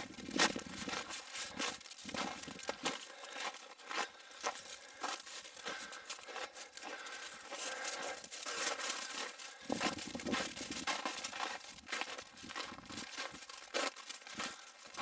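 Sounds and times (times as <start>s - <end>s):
footsteps crunching on snow: 0.0s - 15.0s.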